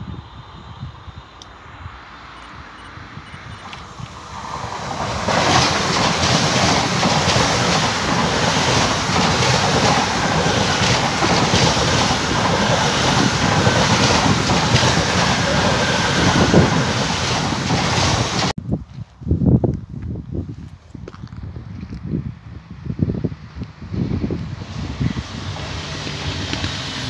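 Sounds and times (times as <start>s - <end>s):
high-speed train passing: 0.0s - 18.6s, 23.4s - 27.0s.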